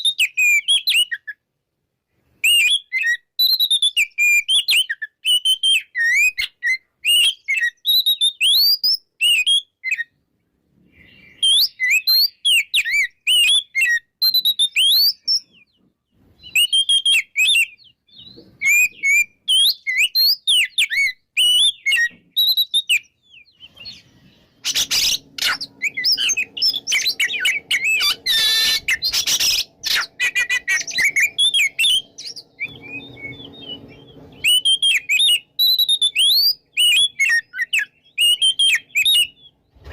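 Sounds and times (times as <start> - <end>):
bird singing whistled phrases: 0.0 - 1.4, 2.4 - 10.1, 11.0 - 15.6, 16.4 - 39.6.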